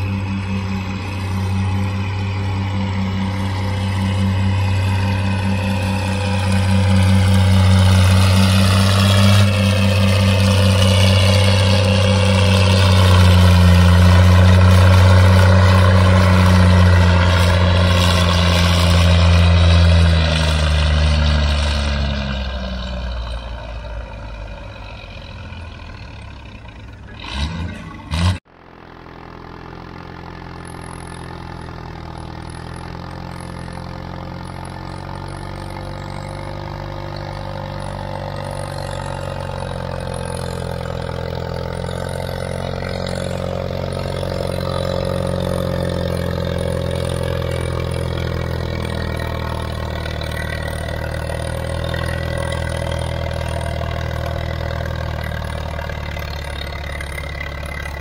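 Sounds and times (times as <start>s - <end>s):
tractor engine working hard: 0.0s - 58.0s.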